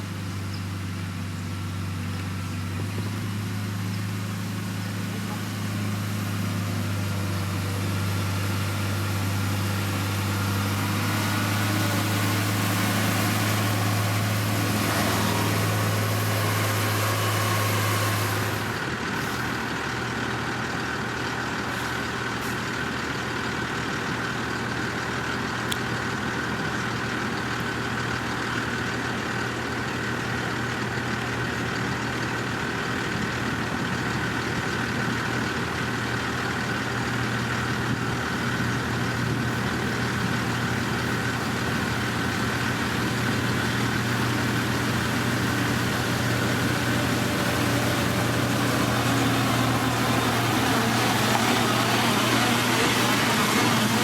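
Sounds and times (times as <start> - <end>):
diesel engine humming: 0.0 - 54.0
rough engine with faint whine: 0.0 - 54.0.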